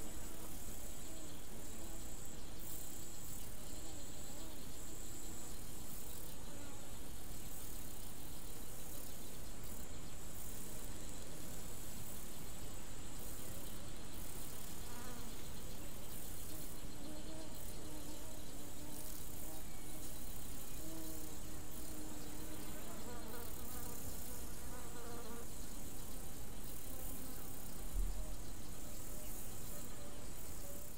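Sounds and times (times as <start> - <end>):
insects buzzing: 0.0 - 30.9
steady high hiss: 0.0 - 30.9.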